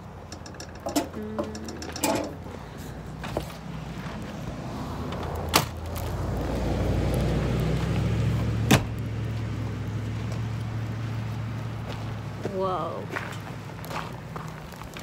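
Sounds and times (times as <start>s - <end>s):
wood popping in fire: 0.0s - 15.0s.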